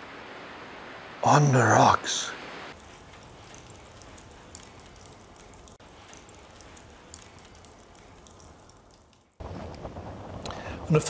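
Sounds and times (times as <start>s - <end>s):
fire crackling: 0.0s - 11.0s.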